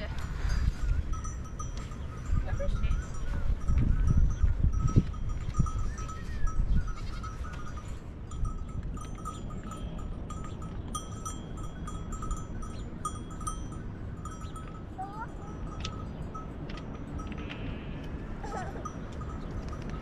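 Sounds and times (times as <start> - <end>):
sheep and goats grazing: 0.0 - 20.0.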